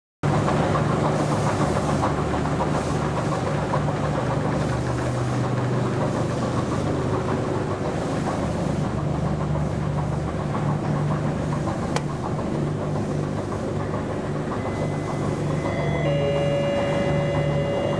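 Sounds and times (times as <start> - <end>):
machinery humming and rumbling: 0.2 - 17.9.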